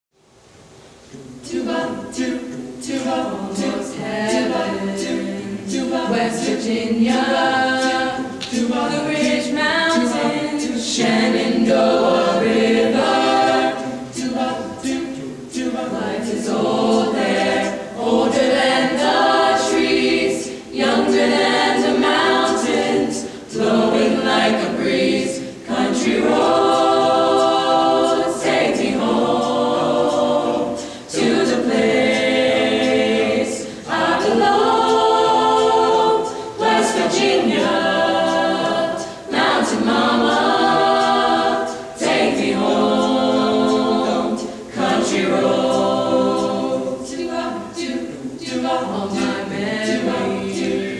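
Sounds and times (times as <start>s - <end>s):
choir singing a cappella: 0.2s - 50.9s.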